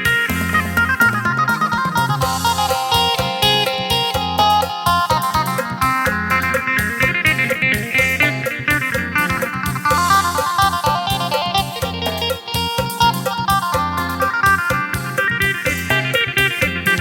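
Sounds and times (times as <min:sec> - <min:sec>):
bass line: 0:00.0 - 0:17.0
drum beat: 0:00.0 - 0:17.0
plucked lute melody: 0:00.4 - 0:17.0.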